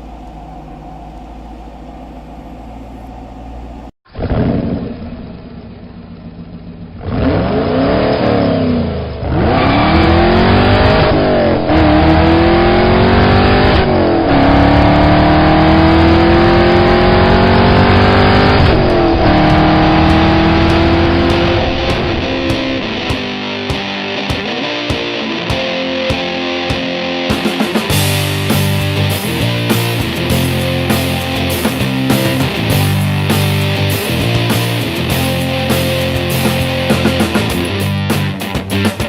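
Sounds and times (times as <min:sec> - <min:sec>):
sports car engine accelerating: 0:00.0 - 0:38.6.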